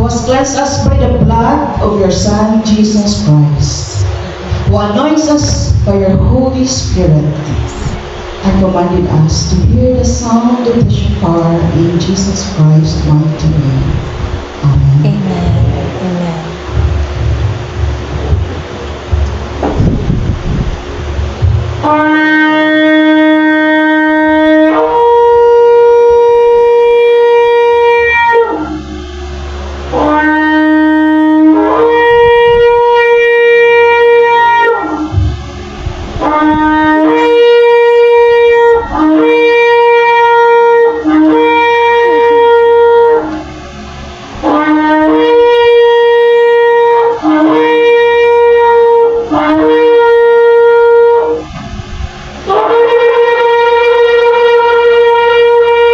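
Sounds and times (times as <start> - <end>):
shofar blasts: 0.0 - 55.9.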